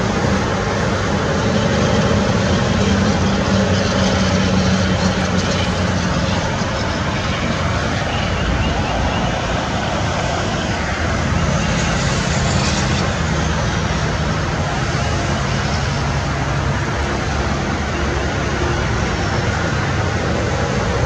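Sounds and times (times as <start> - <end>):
road traffic hiss: 0.0 - 21.0.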